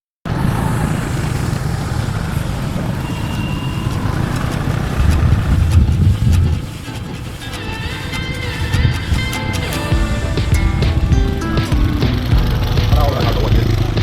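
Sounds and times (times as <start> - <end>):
traffic rumble: 0.3 - 14.0
vehicle passing close: 0.3 - 14.0.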